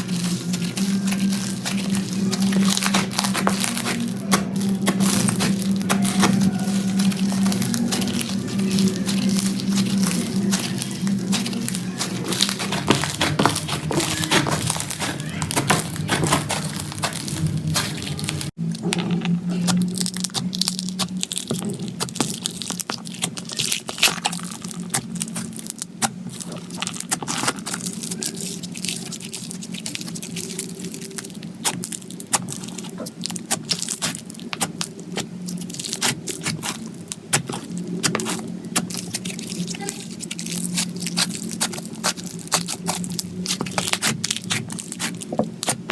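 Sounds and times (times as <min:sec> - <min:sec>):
slime crackling and popping: 0:00.0 - 0:45.9.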